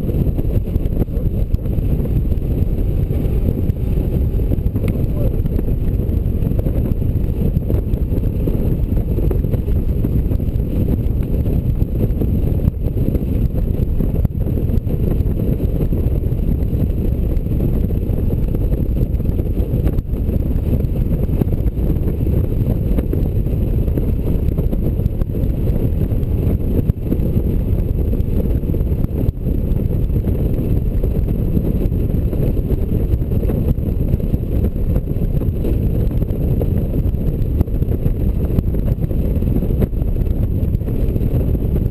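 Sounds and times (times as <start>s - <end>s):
motorcycle engine: 0.0s - 41.9s
wind buffeting microphone: 0.0s - 41.9s.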